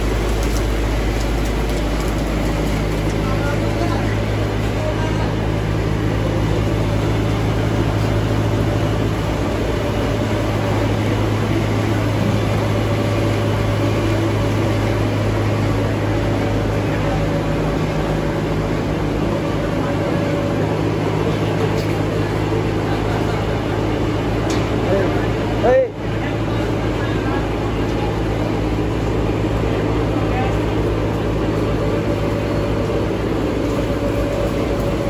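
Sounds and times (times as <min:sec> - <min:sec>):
rotary drum dryer droning: 0:00.0 - 0:35.0
rumble of turning drum: 0:00.0 - 0:35.0.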